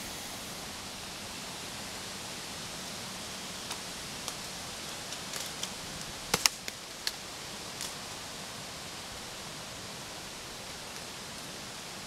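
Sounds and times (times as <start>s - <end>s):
leaves crackling underfoot: 0.0s - 12.0s
outdoor hiss: 0.0s - 12.0s.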